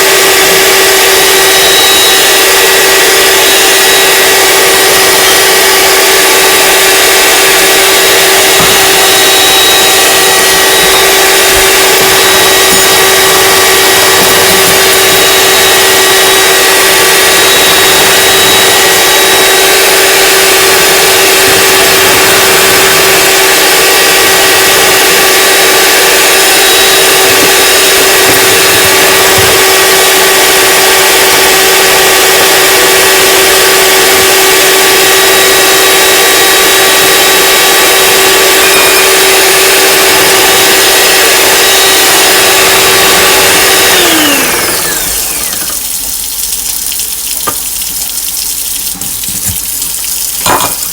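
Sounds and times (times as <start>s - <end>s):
electric mixer whirring: 0.0s - 50.9s.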